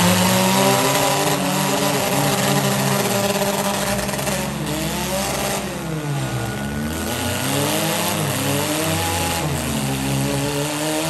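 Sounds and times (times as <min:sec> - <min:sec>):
engines revving hard: 0:00.0 - 0:11.0.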